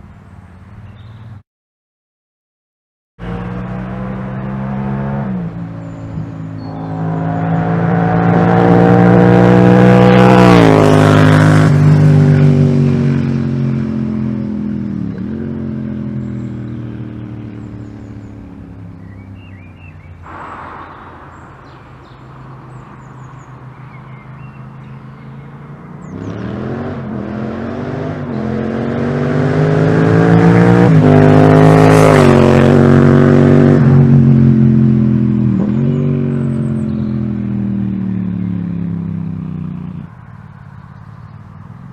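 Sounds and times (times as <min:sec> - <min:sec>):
motorcycle engine accelerating: 0:03.2 - 0:41.9.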